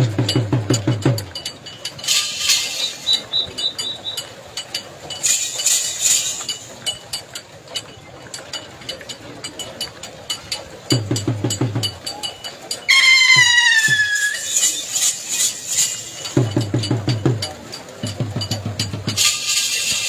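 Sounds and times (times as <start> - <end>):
metal clinking and clicking: 0.0 - 20.0.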